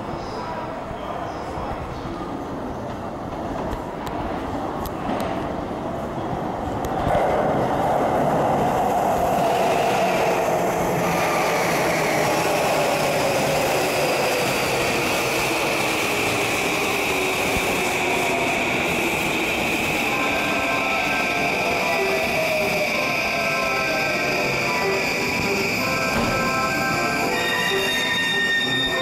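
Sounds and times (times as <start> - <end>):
train wheels rumbling on rails: 2.4 - 29.0.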